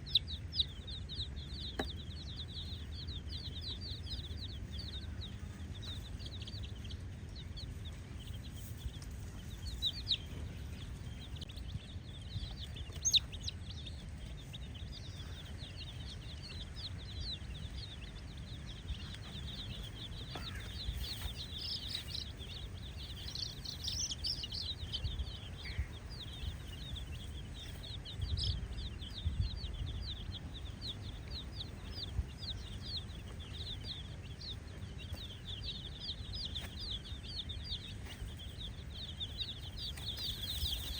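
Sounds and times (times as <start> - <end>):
baby chicks peeping: 0.0 - 40.9
low background rumble: 0.0 - 40.9.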